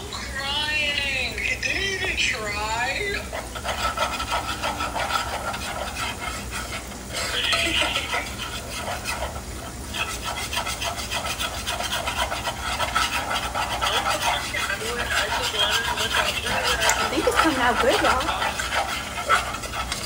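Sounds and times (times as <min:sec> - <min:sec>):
faint sizzle from frying pan: 0:00.0 - 0:20.0
spoon scraping saucepan: 0:01.7 - 0:20.0.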